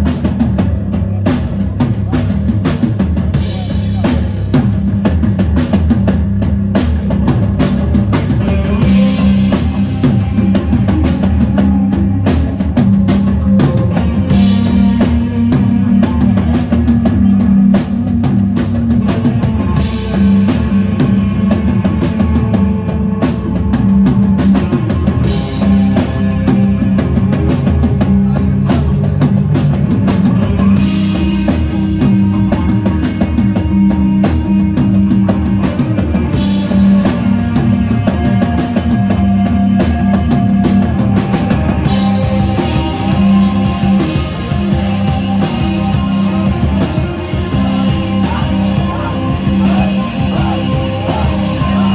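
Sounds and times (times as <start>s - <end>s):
drum kit: 0.0s - 51.9s
electric guitar: 0.0s - 51.9s
rock band playing live: 0.0s - 51.9s.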